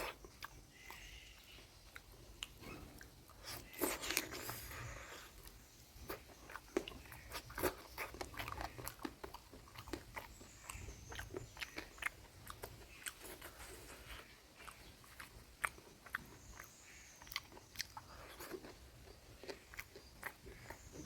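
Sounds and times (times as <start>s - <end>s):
chewing with wet mouth clicks: 0.0s - 21.0s.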